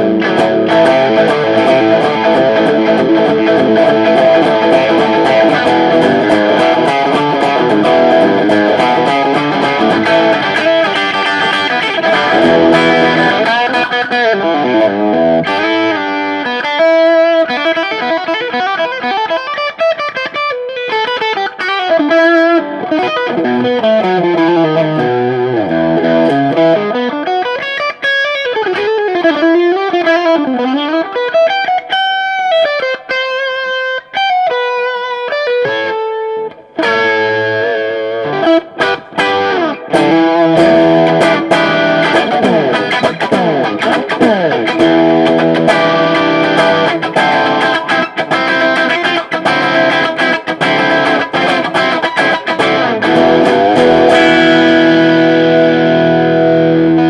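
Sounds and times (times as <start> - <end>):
overdriven electric guitar: 0.0 - 57.0.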